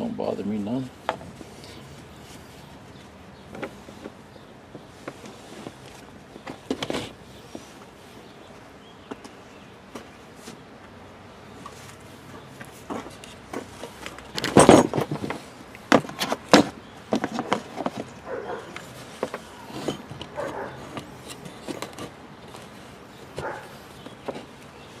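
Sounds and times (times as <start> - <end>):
garden hose handling noise: 0.0 - 25.0.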